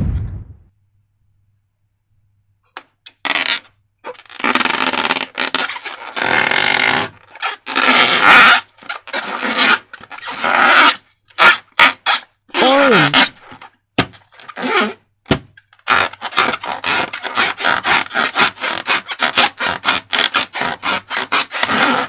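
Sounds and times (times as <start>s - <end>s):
rubbing and scraping of balloons: 3.1s - 22.0s.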